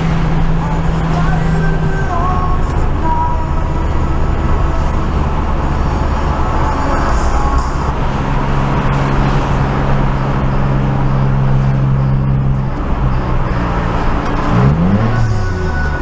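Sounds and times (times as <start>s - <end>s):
car engine drone: 0.0s - 16.0s
tyres on wet road: 0.0s - 16.0s.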